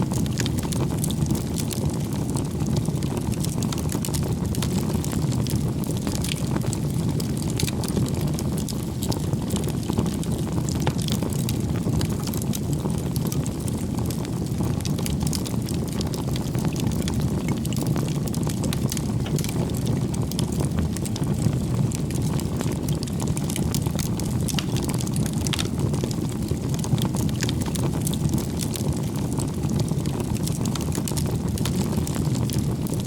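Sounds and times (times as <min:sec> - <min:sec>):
campfire flames burning: 0:00.0 - 0:33.0
firewood crackling and popping: 0:00.0 - 0:33.0.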